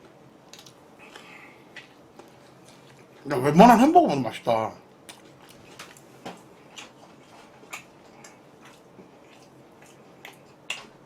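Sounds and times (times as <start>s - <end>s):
chewing with mouth clicks: 0.0s - 3.2s, 5.0s - 11.0s.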